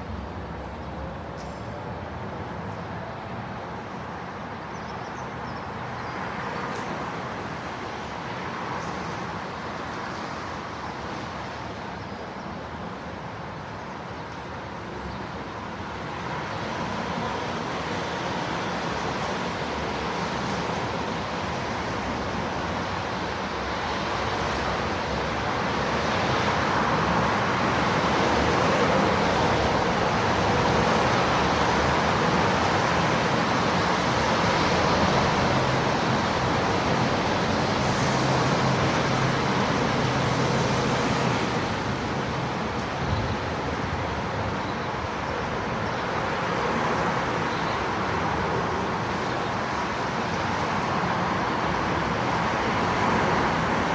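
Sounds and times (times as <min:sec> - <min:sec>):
distant traffic passing: 0:00.0 - 0:53.9.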